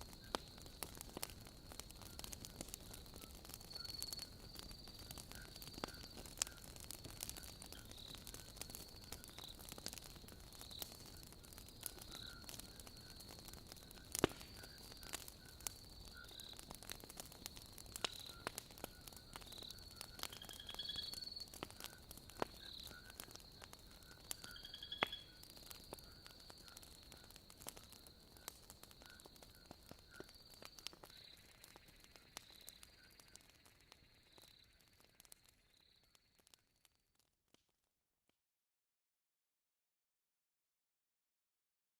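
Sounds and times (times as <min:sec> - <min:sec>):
insects or frogs chirping: 0:00.0 - 0:36.3
fire crackling and popping: 0:00.0 - 0:37.6.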